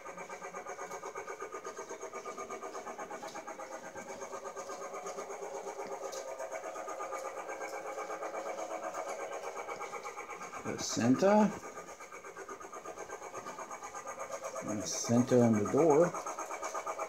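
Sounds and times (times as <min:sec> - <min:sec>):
toy train motor pulsing: 0:00.0 - 0:17.0.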